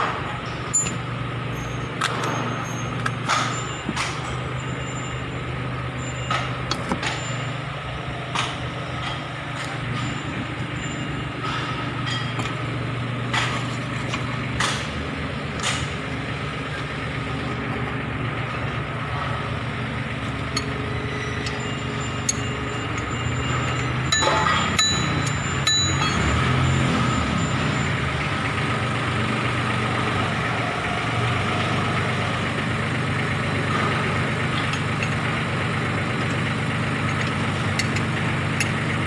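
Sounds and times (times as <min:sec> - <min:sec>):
low engine hum: 0:00.0 - 0:39.0.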